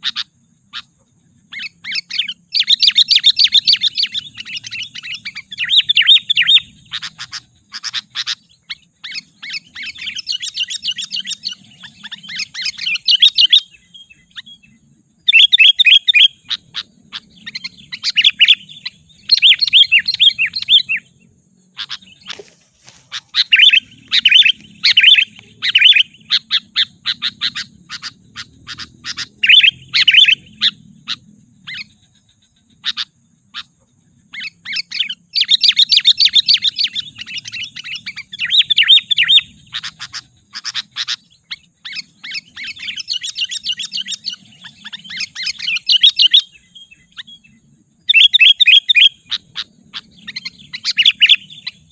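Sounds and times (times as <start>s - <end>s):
bulbul singing: 0.0s - 51.9s.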